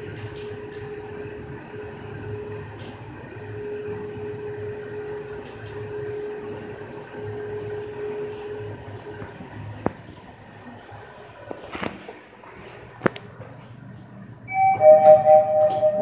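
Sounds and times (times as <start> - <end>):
elevator hum and rumble: 0.0 - 16.0.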